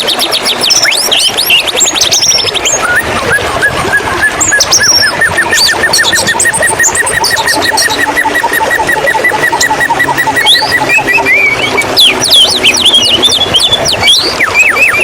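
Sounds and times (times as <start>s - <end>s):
bird singing trills and whistles: 0.0s - 15.0s
running water: 0.0s - 15.0s.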